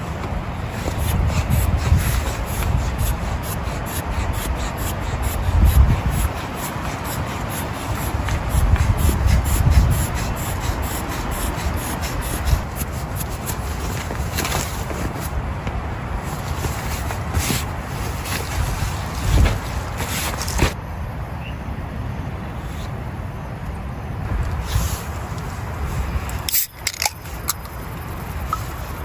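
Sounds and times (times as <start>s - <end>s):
wind gusts: 0.0s - 29.0s.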